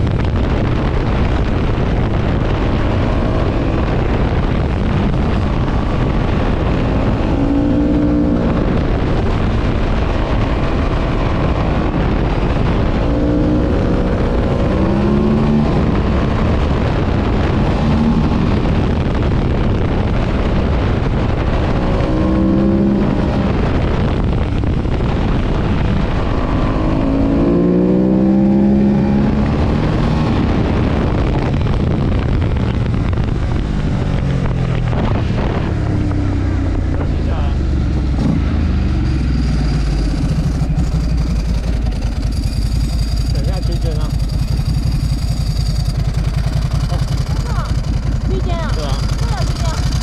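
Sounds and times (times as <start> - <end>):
motorcycle engine accelerating: 0.0 - 50.0
wind noise: 0.0 - 50.0.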